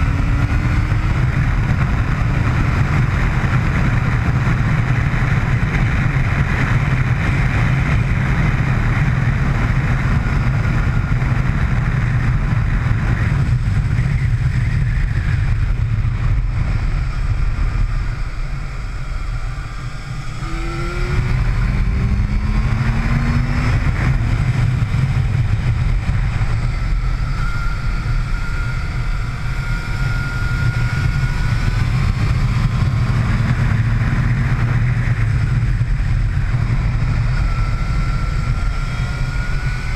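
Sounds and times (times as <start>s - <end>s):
heavy wind rush: 0.0s - 39.9s
motorcycle engine at speed: 0.0s - 39.9s.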